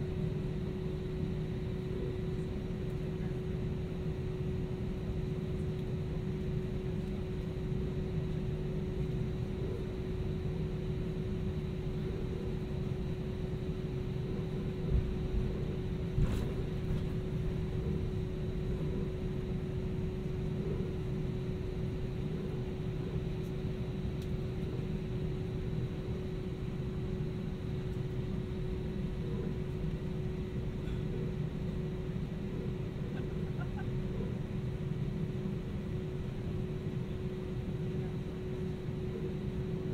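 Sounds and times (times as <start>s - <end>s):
airplane cabin rumble and hum: 0.0s - 39.9s.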